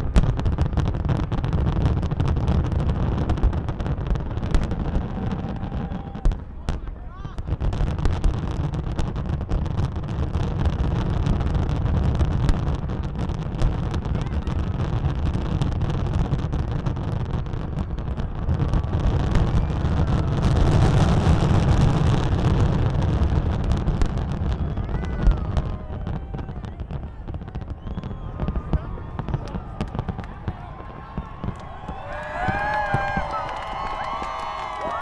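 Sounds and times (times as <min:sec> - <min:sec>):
rumble of firework bursts: 0:00.0 - 0:35.0
sharp firework cracks: 0:00.0 - 0:35.0.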